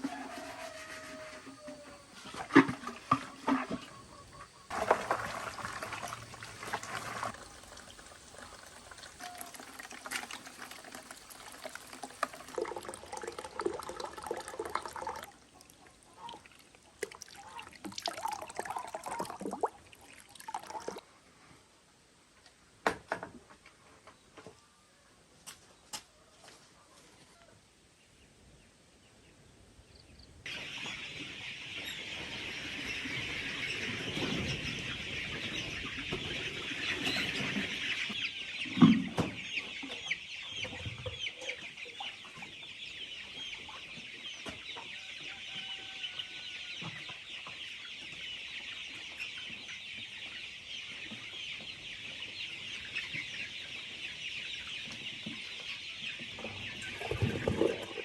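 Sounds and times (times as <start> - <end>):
chickens calling: 0.0 - 19.5, 30.5 - 58.0.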